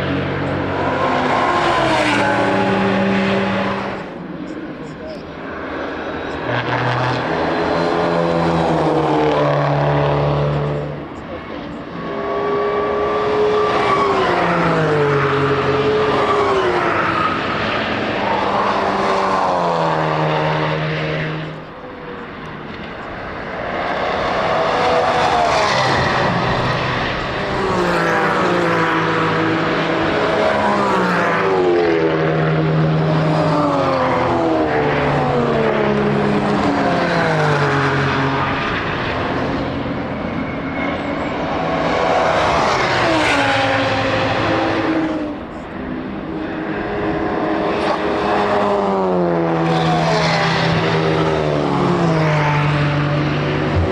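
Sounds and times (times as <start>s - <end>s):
race car engines passing: 0.0s - 53.9s.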